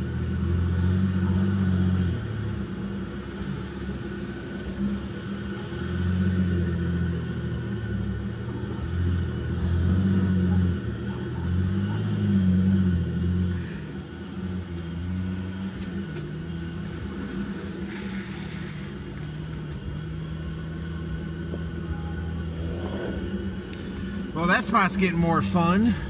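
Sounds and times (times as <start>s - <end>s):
vehicle engine pulling at low speed: 0.0s - 26.0s.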